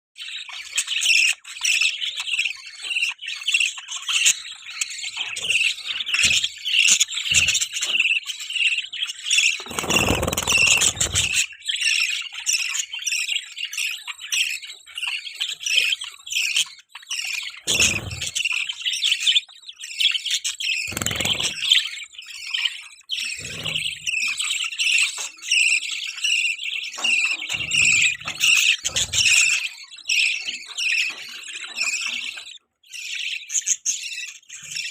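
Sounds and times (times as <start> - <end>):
budgies chirping: 0.2 - 34.9.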